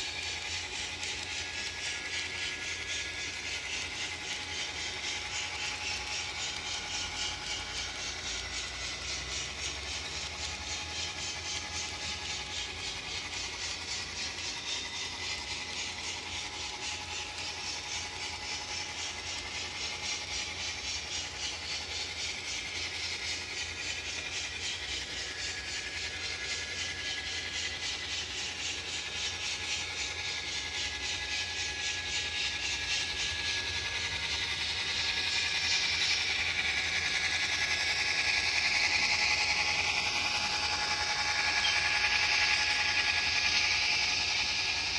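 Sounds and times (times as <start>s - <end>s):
faint motor whine: 0.0s - 44.9s
hissing pulsing locomotive sound: 0.0s - 44.9s.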